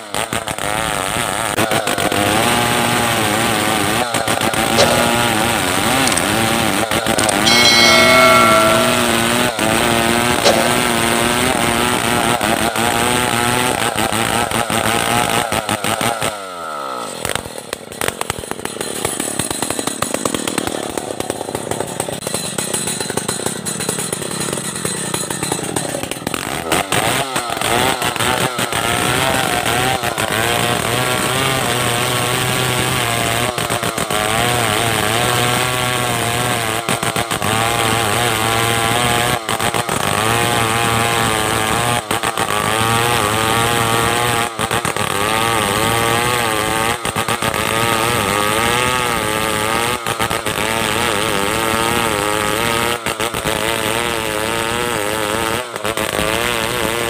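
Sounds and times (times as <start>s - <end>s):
chainsaw cutting timber: 0.0s - 8.5s, 12.8s - 57.0s.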